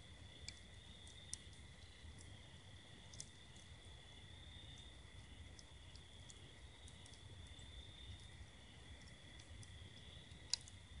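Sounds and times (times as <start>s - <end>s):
hot coals popping and crackling: 0.0s - 11.0s
night insects trilling: 0.0s - 11.0s.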